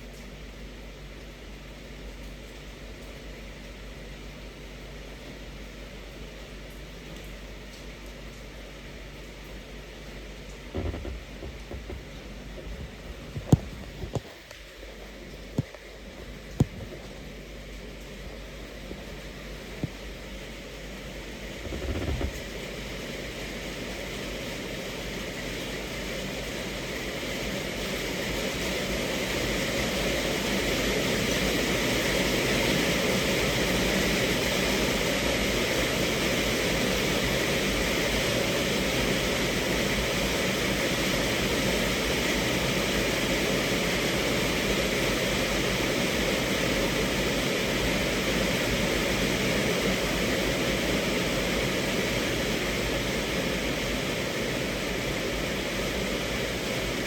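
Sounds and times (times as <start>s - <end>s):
rain on a car roof: 0.0s - 57.0s.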